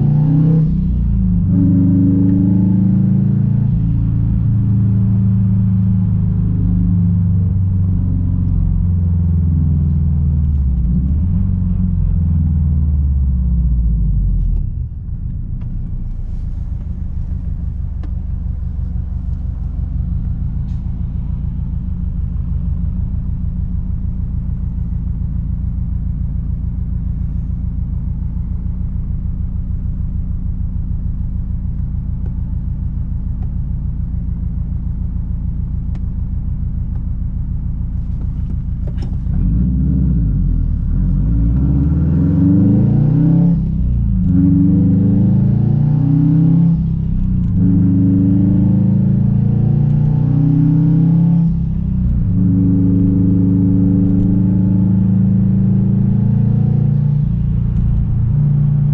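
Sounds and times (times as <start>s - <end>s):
car engine running and idling: 0.0s - 58.9s.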